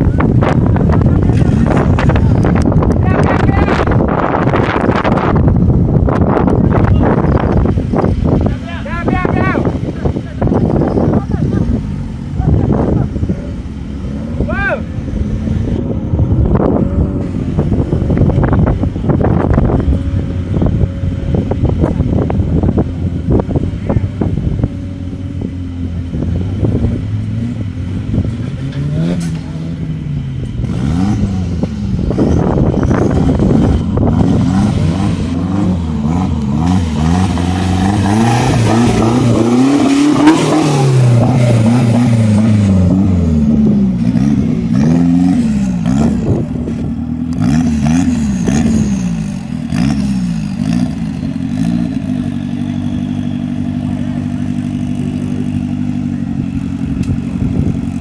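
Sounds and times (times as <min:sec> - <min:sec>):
buggy engines revving: 0:00.0 - 0:58.0.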